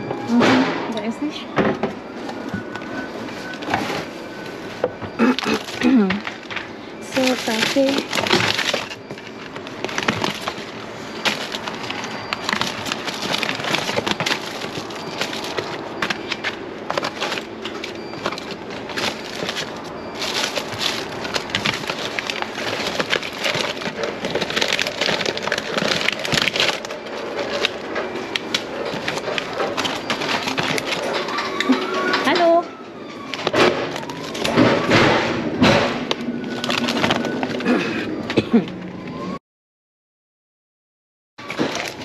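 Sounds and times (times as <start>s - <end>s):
plastic packaging crinkling: 2.4s - 32.6s, 33.2s - 34.8s, 36.1s - 37.8s, 41.4s - 42.0s.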